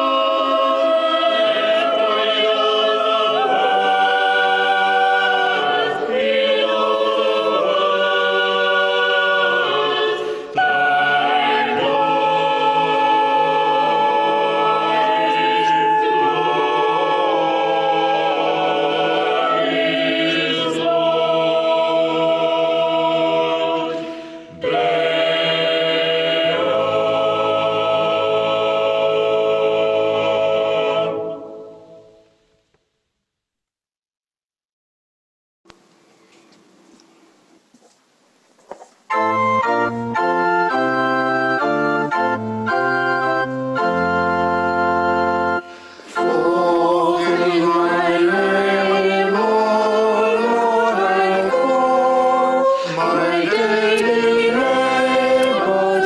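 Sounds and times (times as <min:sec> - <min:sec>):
unaccompanied choir singing: 0:00.0 - 0:32.2, 0:39.6 - 0:56.0.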